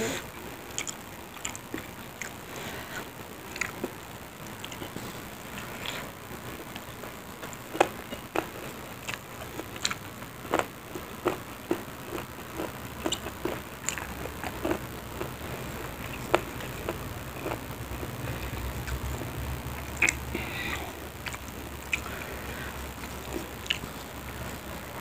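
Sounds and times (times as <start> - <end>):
person chewing and lip-smacking: 0.7 - 2.4, 3.0 - 3.9, 4.5 - 6.0, 6.7 - 17.7, 18.3 - 24.6.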